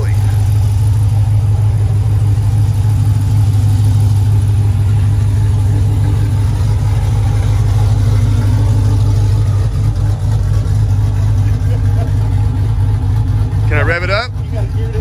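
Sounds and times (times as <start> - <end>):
car engine idling unevenly: 0.0 - 15.0.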